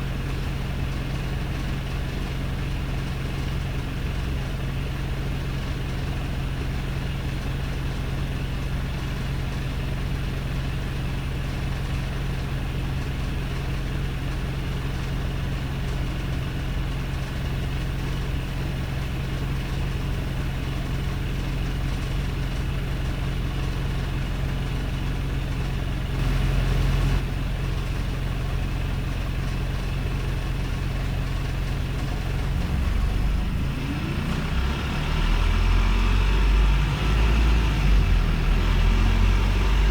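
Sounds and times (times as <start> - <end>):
diesel bus engine idling roughly: 0.0 - 36.9.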